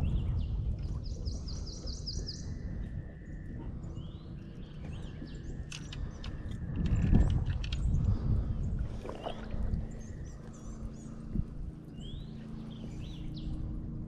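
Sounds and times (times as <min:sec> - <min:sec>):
songbirds singing: 0:00.0 - 0:14.0
steady low rumble: 0:00.0 - 0:14.0.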